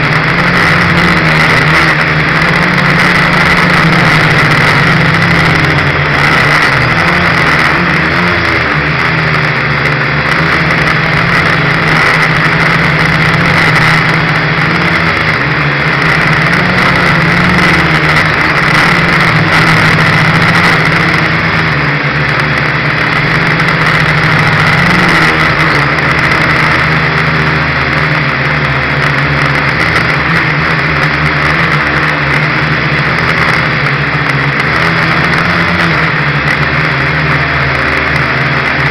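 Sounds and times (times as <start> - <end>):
quadcopter propellers buzzing: 0.0 - 38.9.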